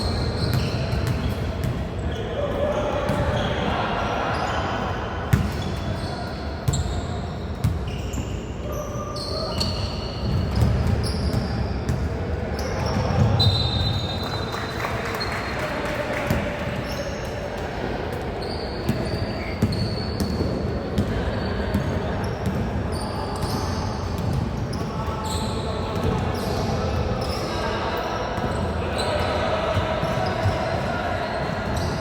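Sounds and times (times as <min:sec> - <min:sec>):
sneakers squeaking on court: 0:00.0 - 0:03.5, 0:05.3 - 0:14.3, 0:16.2 - 0:32.0
players' voices echoing: 0:00.0 - 0:07.8, 0:08.6 - 0:32.0.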